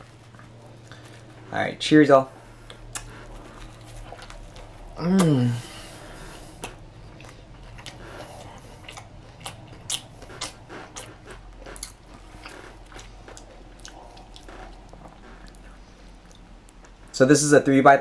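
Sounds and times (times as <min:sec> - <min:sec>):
close-up chewing with crunches: 0:00.0 - 0:01.6, 0:02.4 - 0:17.1.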